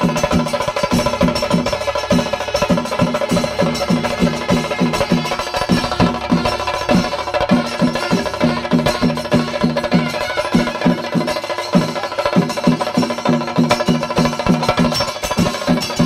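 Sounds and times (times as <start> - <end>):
held wind instrument note: 0.0 - 13.3
drums beaten with sticks: 0.0 - 16.0
hand cymbals clashing: 0.0 - 16.0.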